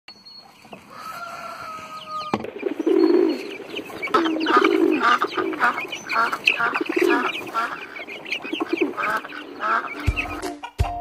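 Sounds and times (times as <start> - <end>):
poultry calls: 0.4 - 10.7.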